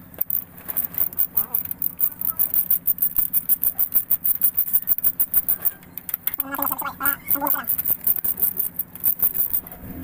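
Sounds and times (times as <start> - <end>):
ratchet wrench clicking: 0.2 - 9.7.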